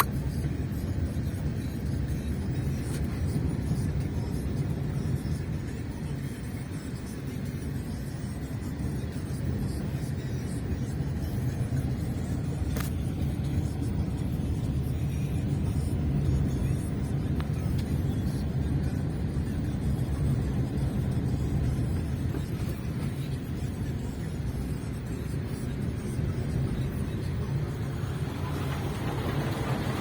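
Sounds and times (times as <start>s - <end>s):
diesel engine rumbling: 0.0s - 30.0s.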